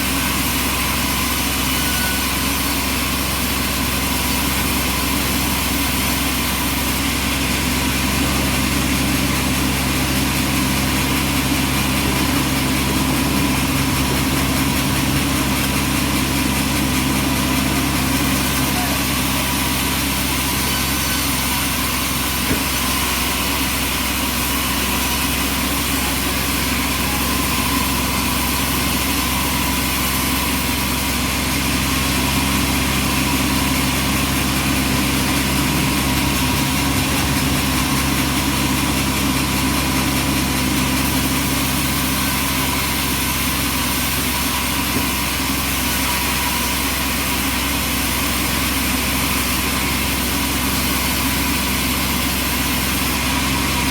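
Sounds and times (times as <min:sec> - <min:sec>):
sawmill engine running: 0:00.0 - 0:53.9.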